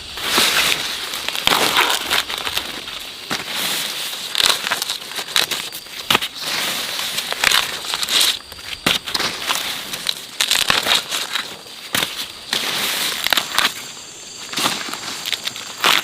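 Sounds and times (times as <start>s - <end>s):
crackling and rustling dry material: 0.0s - 16.0s.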